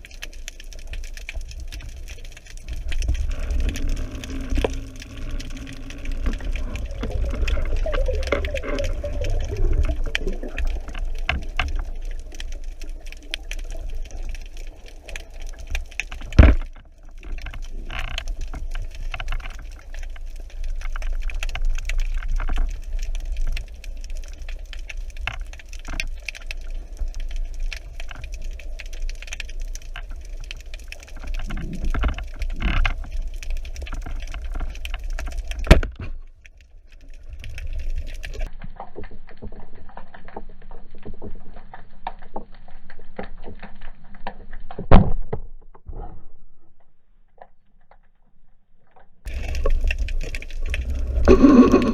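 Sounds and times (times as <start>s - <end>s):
crackling clicks underwater: 0.0s - 51.9s
underwater rumble: 0.0s - 51.9s.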